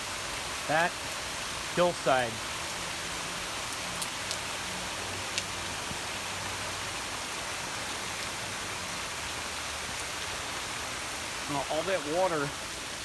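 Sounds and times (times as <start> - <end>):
heavy downpour hissing: 0.0 - 13.0
runoff water rushing: 0.0 - 13.0.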